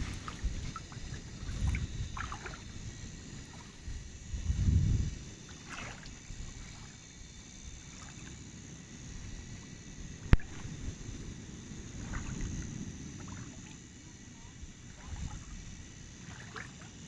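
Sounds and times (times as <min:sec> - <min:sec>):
wind buffeting microphone: 0:00.0 - 0:06.9, 0:09.1 - 0:16.0.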